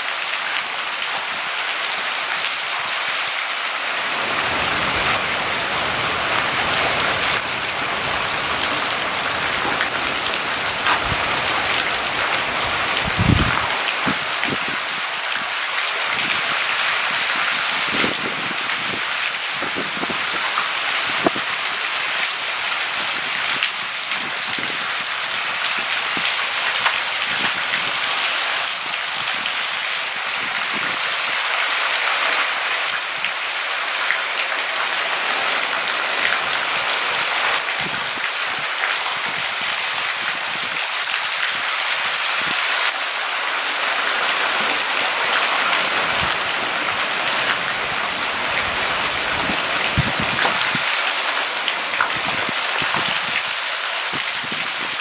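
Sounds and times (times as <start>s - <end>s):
steady rain hiss: 0.0s - 55.0s
raindrops ticking close by: 3.2s - 31.5s, 35.9s - 55.0s.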